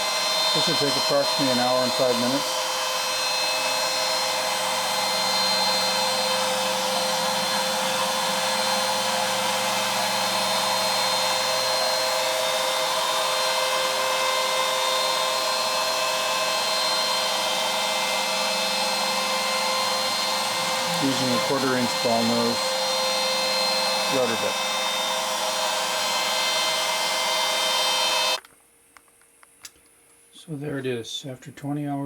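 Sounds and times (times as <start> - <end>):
router spindle whine milling wood: 0.0 - 28.4
low hum: 2.0 - 28.3.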